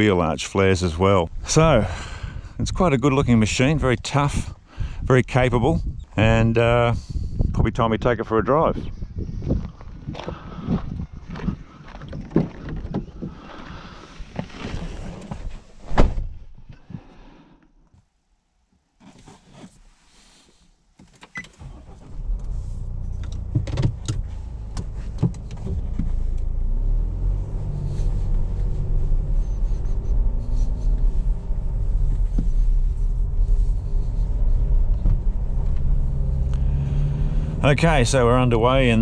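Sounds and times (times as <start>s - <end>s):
diesel engine rumble: 0.0s - 14.6s, 21.6s - 39.0s.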